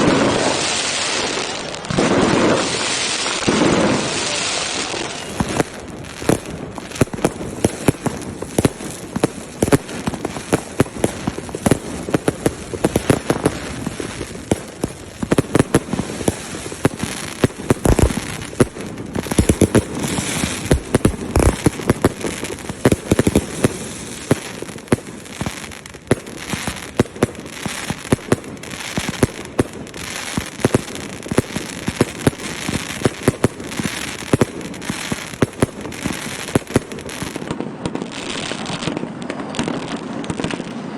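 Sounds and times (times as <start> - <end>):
fireworks bangs: 0.0 - 40.9
fireworks crackle: 0.0 - 40.9.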